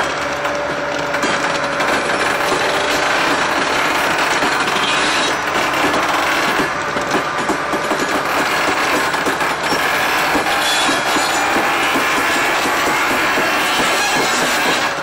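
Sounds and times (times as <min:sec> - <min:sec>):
locomotive wheels grinding on rails: 0:00.0 - 0:15.0.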